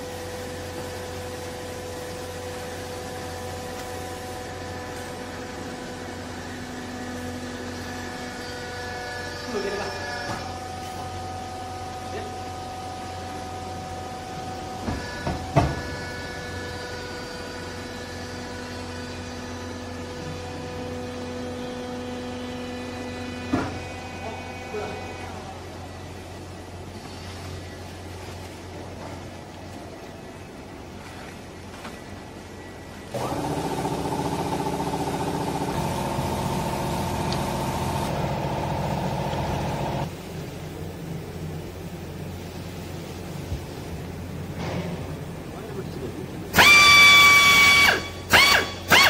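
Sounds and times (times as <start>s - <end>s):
hydraulic hum and whine: 0.0s - 49.0s.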